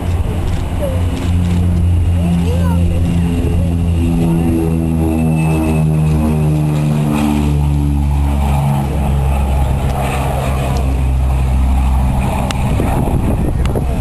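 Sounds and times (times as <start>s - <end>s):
propeller engine drone: 0.0s - 14.0s
steady rushing roar: 0.0s - 14.0s.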